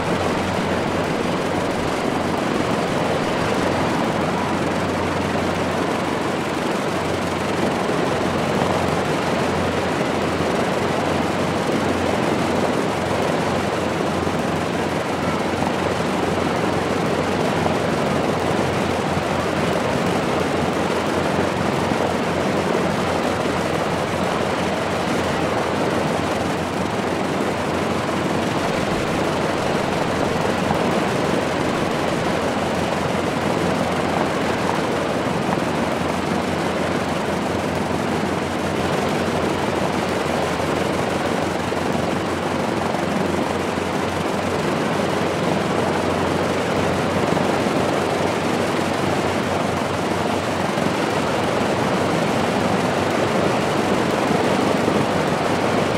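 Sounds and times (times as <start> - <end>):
aircraft engines roaring: 0.0 - 55.9.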